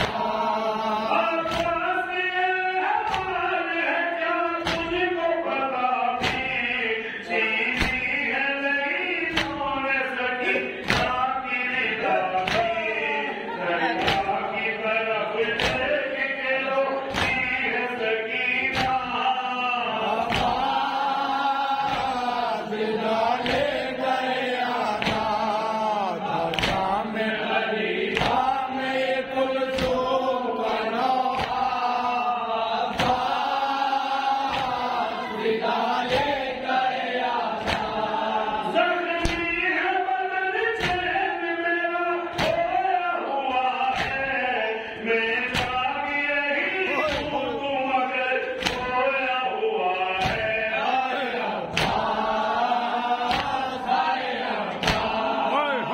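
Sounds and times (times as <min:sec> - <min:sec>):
men chanting in unison: 0:00.0 - 0:55.9.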